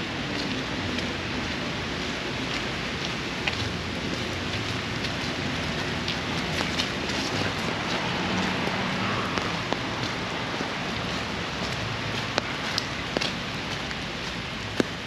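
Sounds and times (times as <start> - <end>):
steady rain falling: 0.0 - 15.0
raindrops ticking: 0.1 - 15.0.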